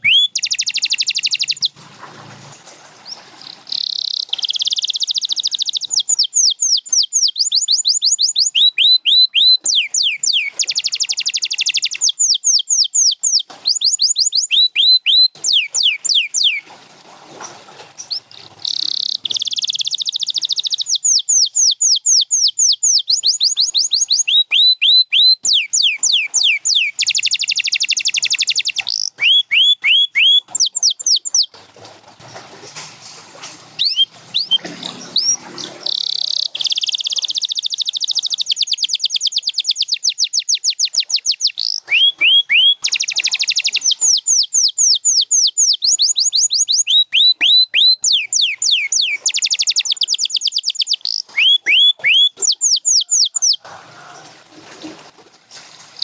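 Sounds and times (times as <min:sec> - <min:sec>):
canary singing: 0:00.0 - 0:01.8, 0:03.0 - 0:16.6, 0:18.0 - 0:31.6, 0:33.8 - 0:54.3.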